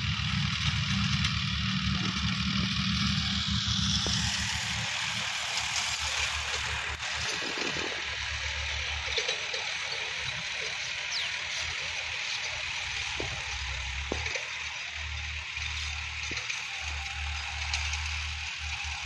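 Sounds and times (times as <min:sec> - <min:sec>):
tractor diesel engine throbbing: 0:00.0 - 0:19.0.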